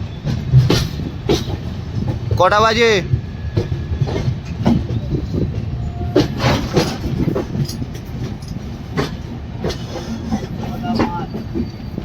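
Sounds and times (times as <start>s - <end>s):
train running noise: 0.0s - 12.0s
wheels clacking over rail joints: 0.0s - 12.0s.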